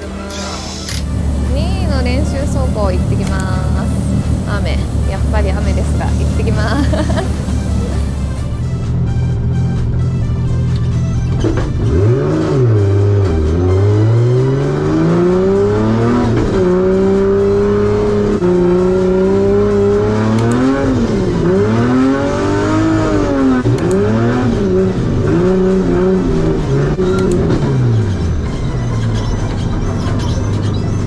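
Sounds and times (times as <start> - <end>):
car engine revving hard: 0.0 - 31.0
faint background music: 0.0 - 31.0.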